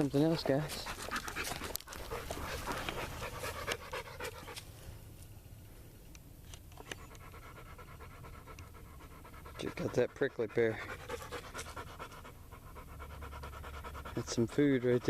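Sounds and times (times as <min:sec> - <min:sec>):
dog panting: 0:00.0 - 0:04.7, 0:07.0 - 0:15.0.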